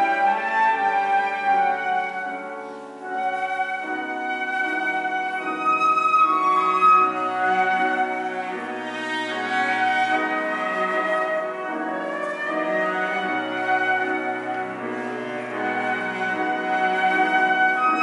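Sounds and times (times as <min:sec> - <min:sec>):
bowed cello: 0:00.0 - 0:18.0
flute: 0:00.0 - 0:18.0
piano: 0:00.0 - 0:18.0.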